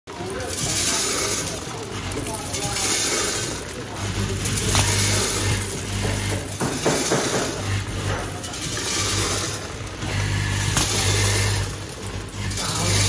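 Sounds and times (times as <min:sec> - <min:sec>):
low machine hum: 0:00.1 - 0:13.0.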